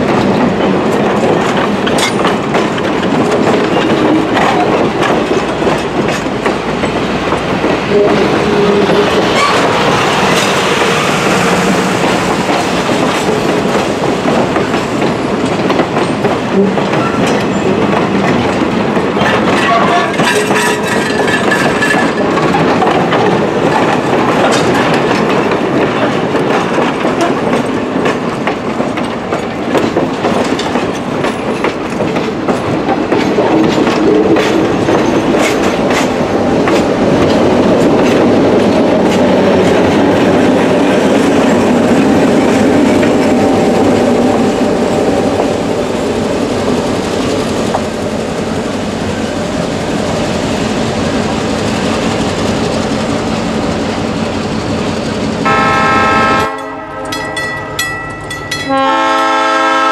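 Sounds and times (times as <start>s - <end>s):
wheels clicking over rail joints: 0.0s - 55.5s
steel wheels rumbling on rail: 0.0s - 59.9s.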